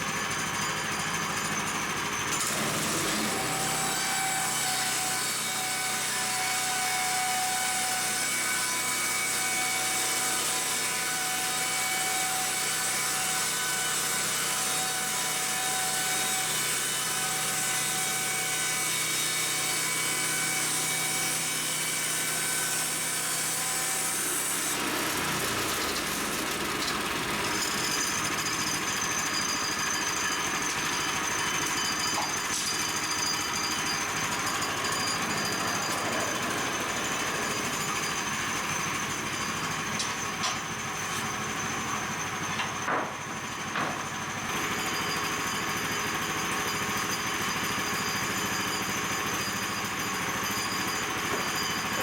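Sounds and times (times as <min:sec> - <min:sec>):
sawmill cutting boards with whine: 0:00.0 - 0:52.0.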